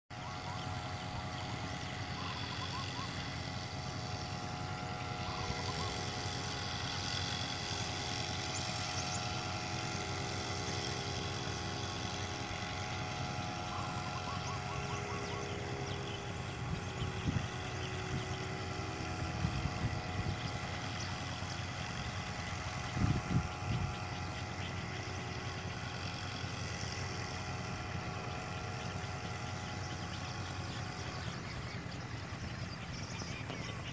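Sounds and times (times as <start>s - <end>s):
small engine drone: 0.0s - 33.9s.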